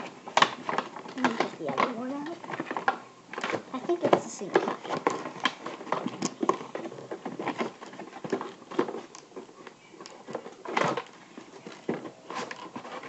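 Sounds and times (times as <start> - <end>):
plastic packaging crinkling and clicking: 0.0 - 13.0
plastic packaging rustle: 0.0 - 13.0.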